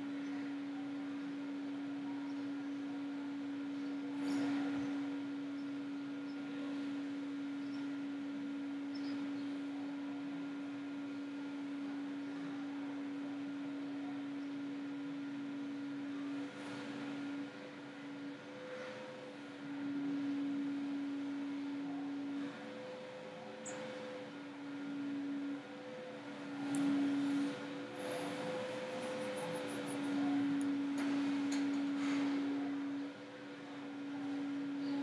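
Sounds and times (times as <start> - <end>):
computer electrical hum: 0.0 - 35.0.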